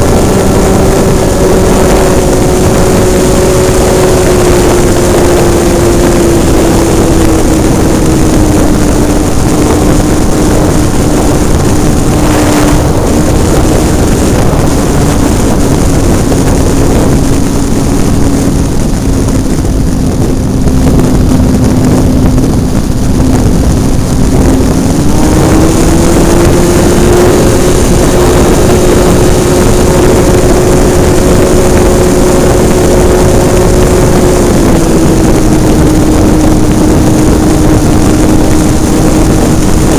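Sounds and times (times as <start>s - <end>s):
model airplane engine running: 0.0s - 39.9s
wind rush over microphone: 0.0s - 39.9s.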